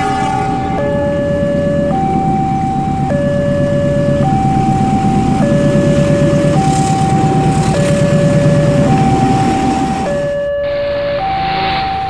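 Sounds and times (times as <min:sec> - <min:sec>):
diesel train rumbling past: 0:00.0 - 0:10.5
two-tone crossing alarm: 0:00.0 - 0:12.0.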